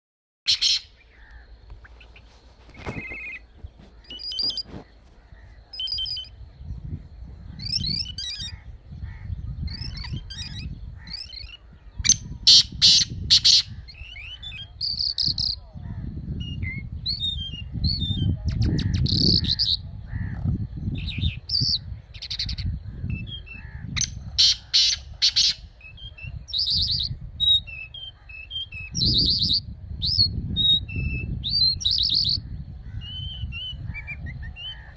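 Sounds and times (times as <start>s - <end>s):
songbirds chirping: 0.5s - 34.9s.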